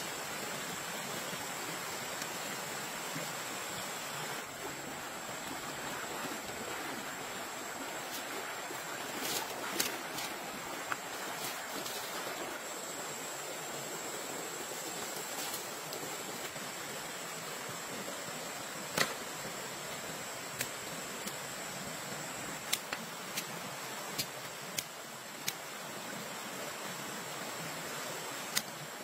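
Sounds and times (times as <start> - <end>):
stream running over stones: 0.0 - 29.0.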